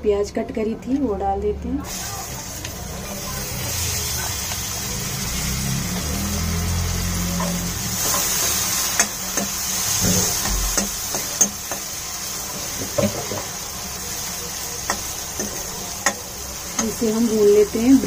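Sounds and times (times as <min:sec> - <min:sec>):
onion sizzling in pan: 0:01.8 - 0:18.0.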